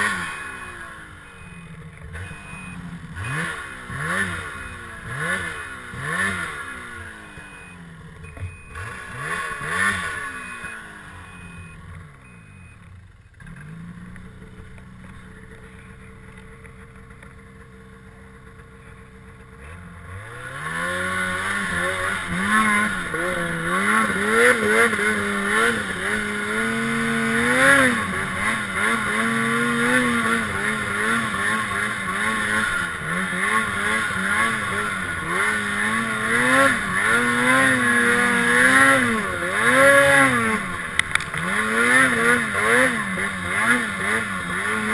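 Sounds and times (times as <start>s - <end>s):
snowmobile engine revving: 0.0s - 12.7s, 19.4s - 44.9s.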